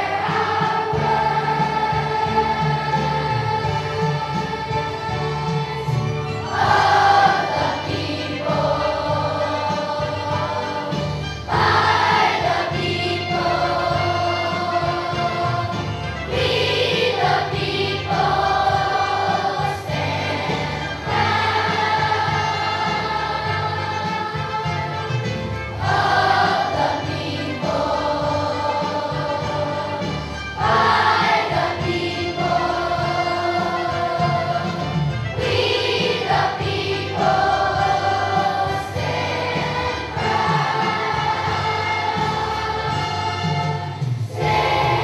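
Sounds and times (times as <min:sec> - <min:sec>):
children's choir singing: 0:00.0 - 0:45.0
musical accompaniment: 0:00.0 - 0:45.0.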